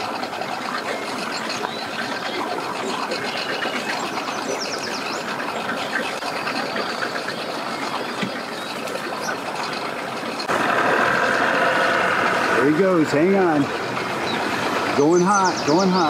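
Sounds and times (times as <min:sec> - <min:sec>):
outboard boat engines running: 0:00.0 - 0:16.0.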